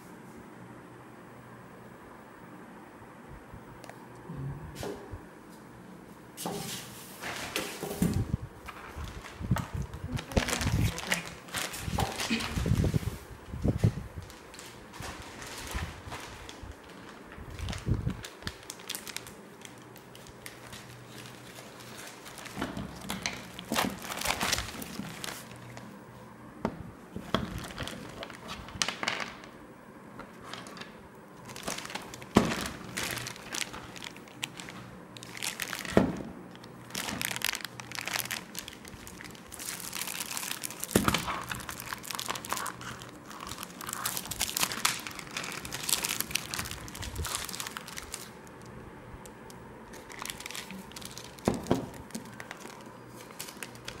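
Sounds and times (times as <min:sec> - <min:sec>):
packing material crinkling and tearing: 0:07.2 - 0:26.0, 0:27.1 - 0:29.5, 0:30.3 - 0:54.0.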